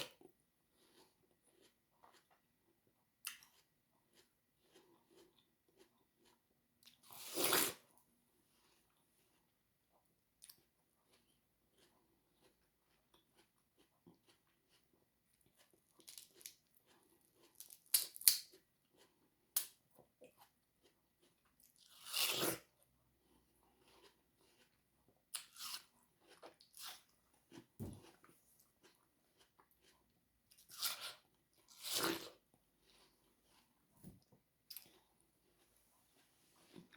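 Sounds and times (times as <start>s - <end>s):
person chewing watermelon: 0.0s - 7.9s, 8.5s - 36.9s.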